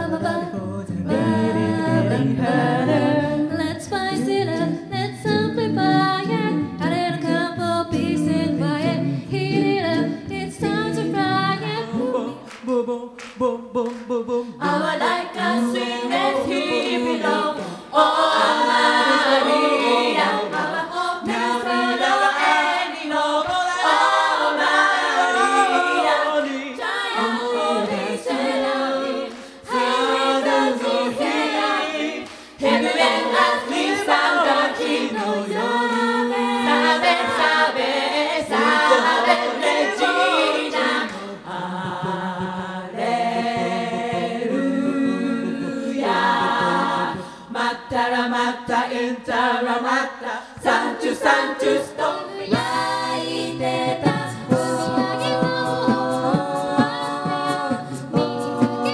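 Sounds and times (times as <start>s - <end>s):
women's group singing a cappella: 0.0s - 58.9s.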